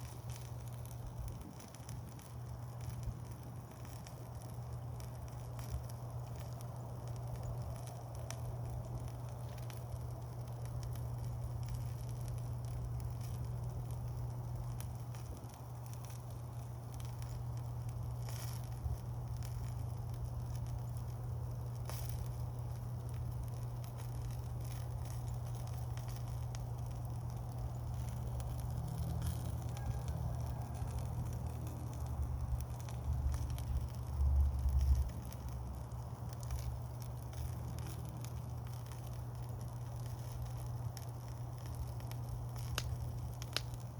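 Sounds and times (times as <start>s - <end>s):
campfire crackling: 0.0s - 43.9s.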